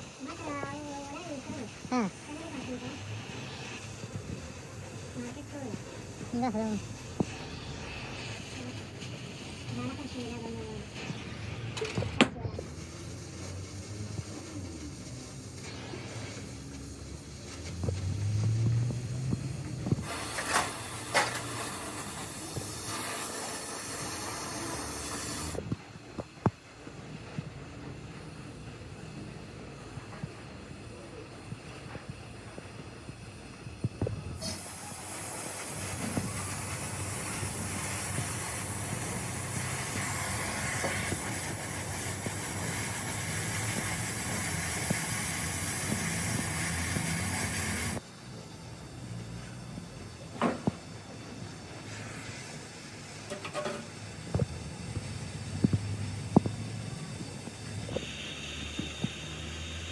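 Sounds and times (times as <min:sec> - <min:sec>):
compressed air hissing: 0:00.0 - 0:59.9.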